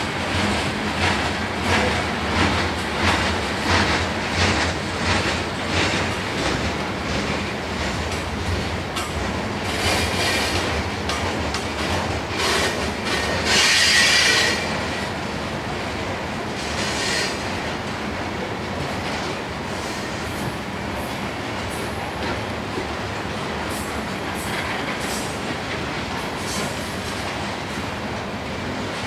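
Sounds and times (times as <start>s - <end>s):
steel train wheels rumbling on rail: 0.0s - 29.0s.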